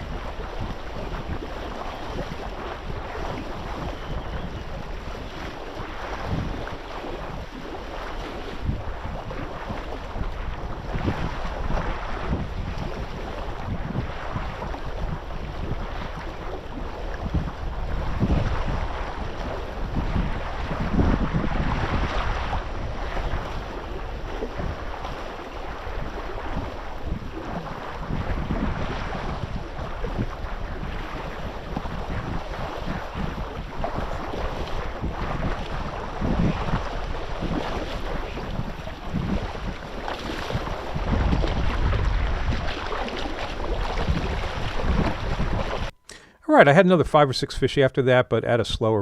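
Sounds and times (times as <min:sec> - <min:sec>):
water wash: 0:00.0 - 0:45.9
wind buffeting microphone: 0:00.0 - 0:46.0.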